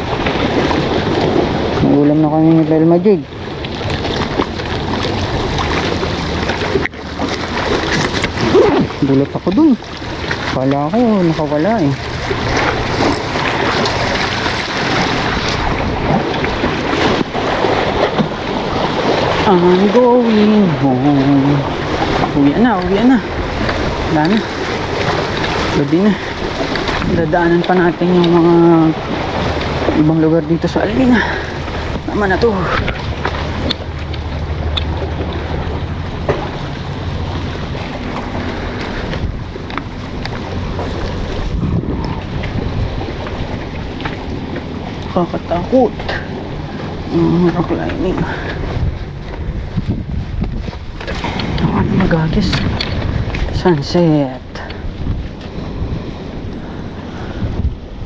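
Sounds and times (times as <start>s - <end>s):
waves splashing against rocks: 0.0s - 58.0s
wind buffeting microphone: 0.0s - 58.0s.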